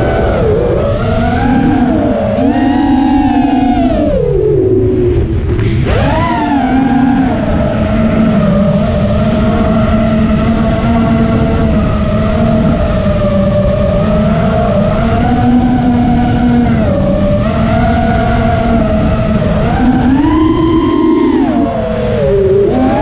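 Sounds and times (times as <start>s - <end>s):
drone motors whining: 0.0s - 23.0s
wind buffeting: 0.0s - 23.0s.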